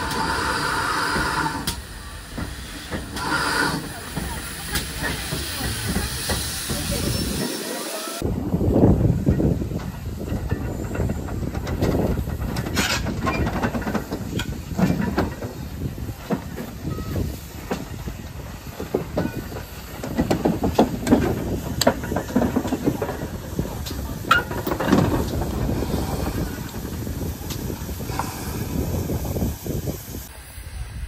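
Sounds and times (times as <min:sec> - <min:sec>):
locomotive rumbling clatter: 0:00.0 - 0:30.3
steam hissing: 0:00.0 - 0:31.0.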